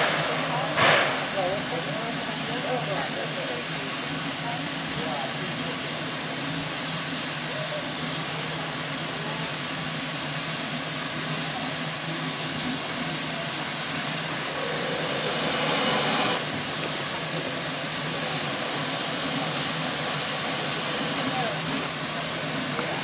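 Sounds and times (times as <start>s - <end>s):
loud rush of steam: 0.0s - 23.0s
steam locomotive hissing steam: 0.0s - 23.0s.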